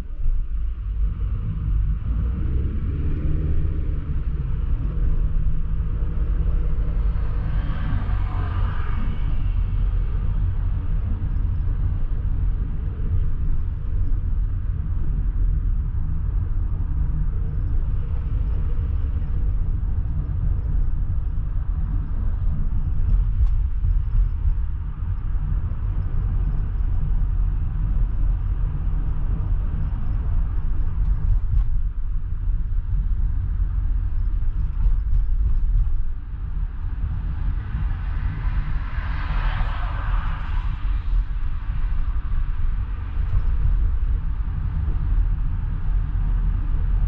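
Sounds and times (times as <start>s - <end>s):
car driving low rumble: 0.0s - 47.0s.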